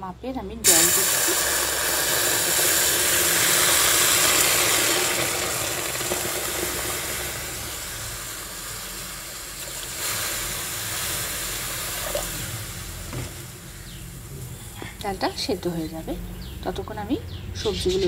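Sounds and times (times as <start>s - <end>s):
water sizzling in hot pan: 0.6s - 16.2s.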